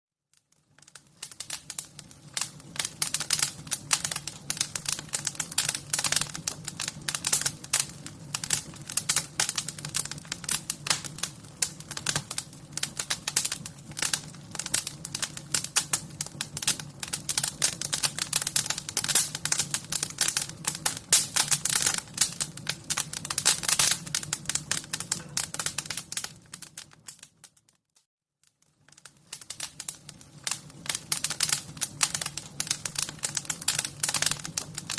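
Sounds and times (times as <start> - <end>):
wood fire crackling and popping: 0.3 - 34.9.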